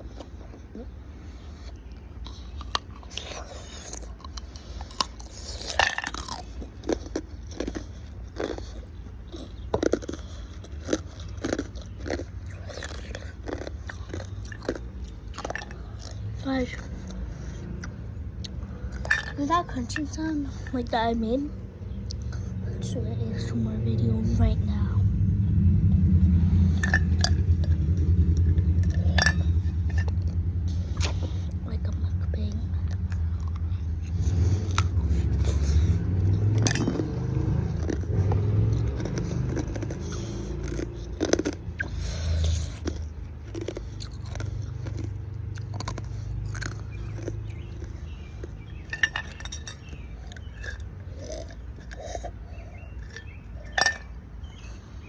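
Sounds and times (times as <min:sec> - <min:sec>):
ice cubes being chewed: 0:00.0 - 0:20.9, 0:26.8 - 0:31.6, 0:32.8 - 0:55.0
steady low rumble: 0:00.0 - 0:55.0.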